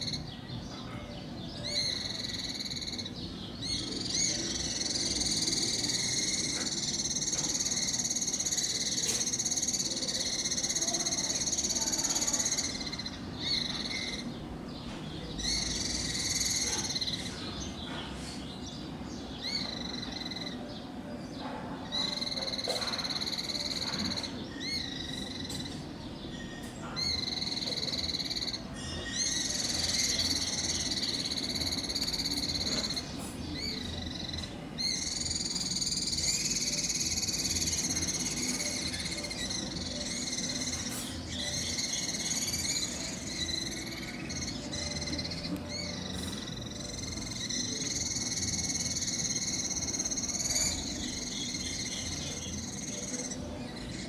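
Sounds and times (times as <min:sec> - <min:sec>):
young birds trilled begging calls: 0:00.0 - 0:21.0, 0:21.8 - 0:54.0.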